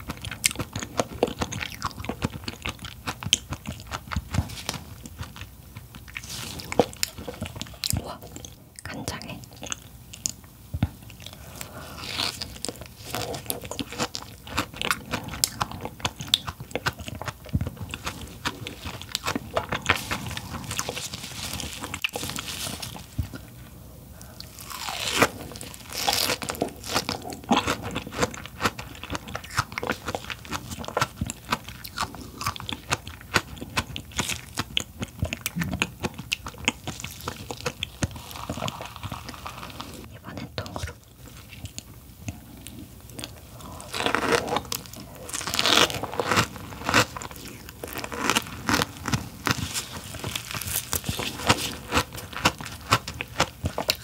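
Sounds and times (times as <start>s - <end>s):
crunchy chewing: 0.0s - 8.6s, 9.4s - 54.0s.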